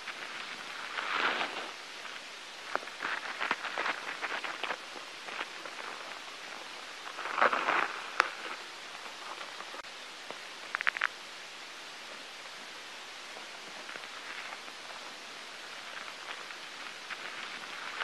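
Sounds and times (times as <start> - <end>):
crackling clicks and rustles: 0.0 - 11.3, 13.3 - 18.0
steady hiss: 0.0 - 18.0.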